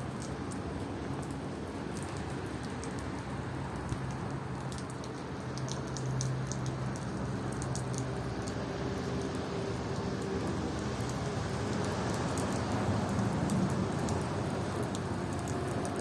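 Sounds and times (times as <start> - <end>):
steady rain: 0.0 - 16.0
raindrops ticking: 0.1 - 16.0.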